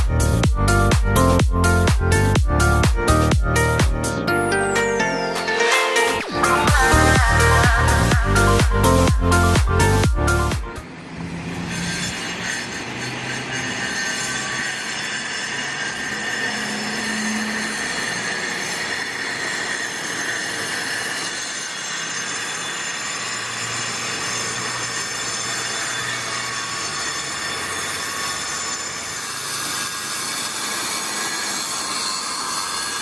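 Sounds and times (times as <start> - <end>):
high squealing tones: 0.1 - 33.0
steady mechanical noise: 6.0 - 33.0.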